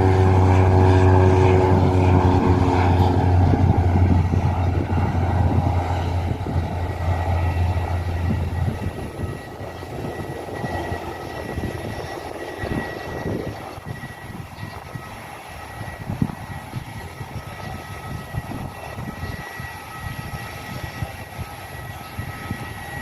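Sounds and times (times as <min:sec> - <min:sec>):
propeller aircraft drone and whine: 0:00.0 - 0:23.0.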